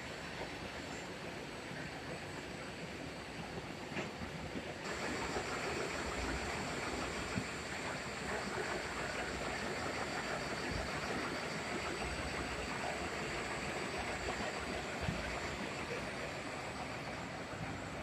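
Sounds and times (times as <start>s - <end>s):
faint high machine whine: 0.0s - 18.0s.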